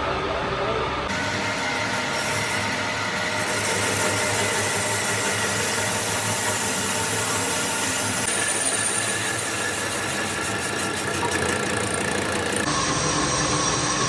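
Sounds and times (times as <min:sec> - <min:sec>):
machine humming with high whine: 0:00.0 - 0:14.0.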